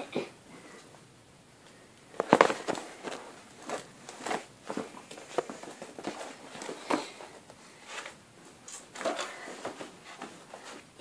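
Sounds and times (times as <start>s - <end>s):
footsteps: 2.2s - 11.0s.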